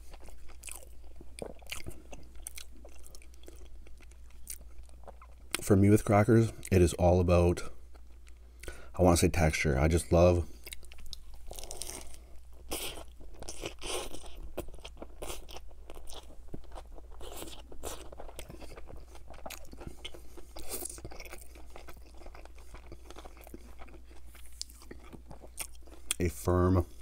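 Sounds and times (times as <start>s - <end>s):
wet crunching and chewing: 0.0s - 5.7s, 10.5s - 27.0s.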